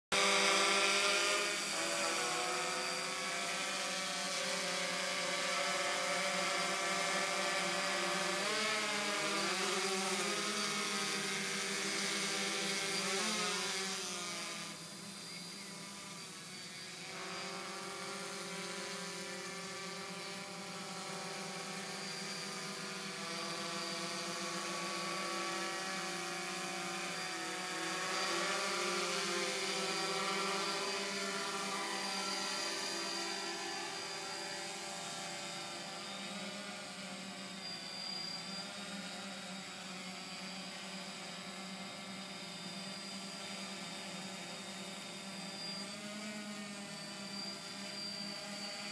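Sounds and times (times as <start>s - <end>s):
drone motors humming: 0.2s - 48.9s.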